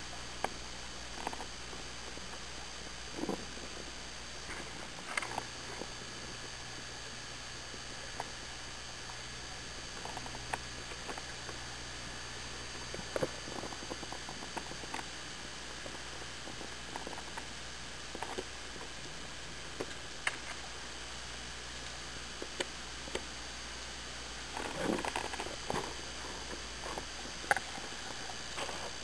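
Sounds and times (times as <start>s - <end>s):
crackling: 0.0s - 29.0s
faint high whine underwater: 0.0s - 29.0s.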